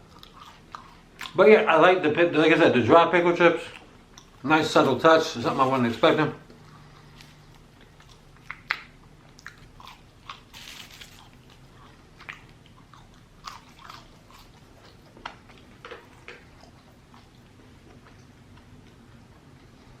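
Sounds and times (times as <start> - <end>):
biting and chewing: 0.0 - 1.4, 5.4 - 20.0
food crunching: 0.0 - 1.5, 3.6 - 19.8.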